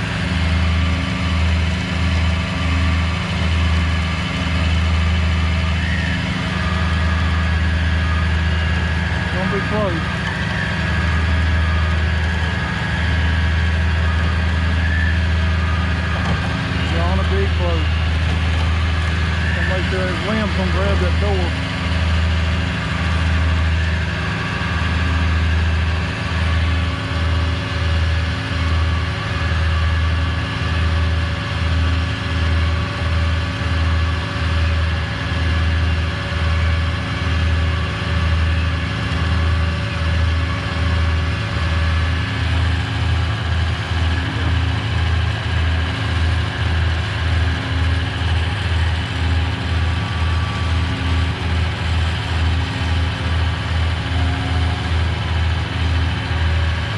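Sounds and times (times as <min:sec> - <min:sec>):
heavy truck engine throbbing: 0:00.0 - 0:56.9.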